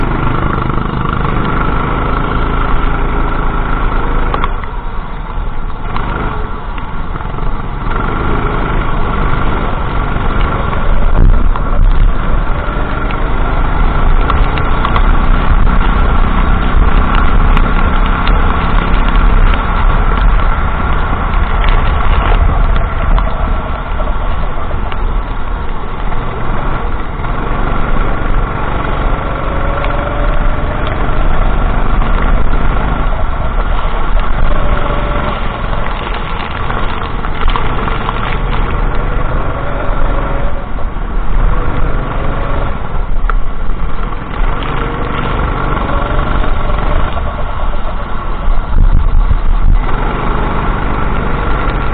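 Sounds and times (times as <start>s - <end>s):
go-kart engine running: 0.0s - 51.9s.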